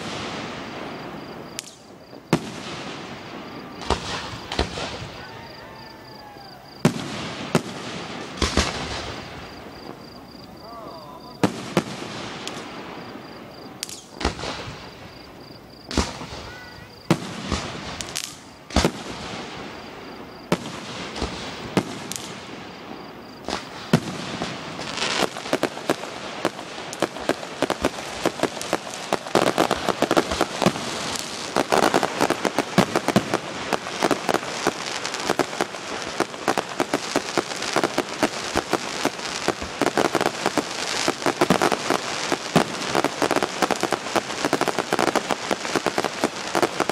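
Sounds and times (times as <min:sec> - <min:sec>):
crackle of rapid firework pops: 0:00.0 - 0:19.6, 0:20.4 - 0:46.9
firework shells bursting: 0:00.0 - 0:46.9.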